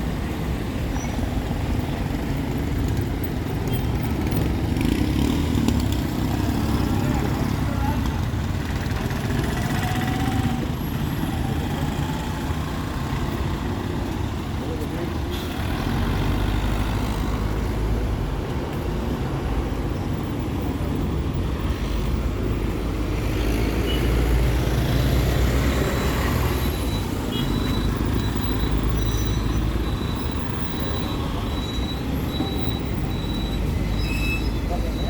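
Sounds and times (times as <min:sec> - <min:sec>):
heavy vehicle engines rumbling: 0:00.0 - 0:35.0.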